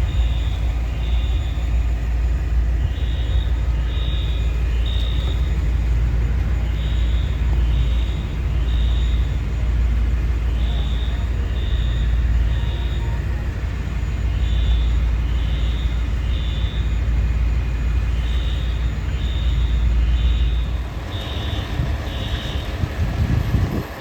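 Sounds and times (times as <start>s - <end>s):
fire alarm beeping: 0.0s - 24.0s
idling vehicle engines rumbling: 0.0s - 24.0s.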